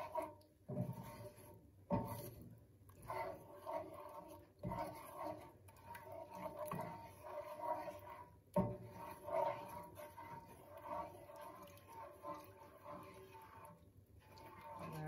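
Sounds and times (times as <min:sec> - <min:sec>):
spatula scraping gravy in skillet: 0:00.0 - 0:15.0.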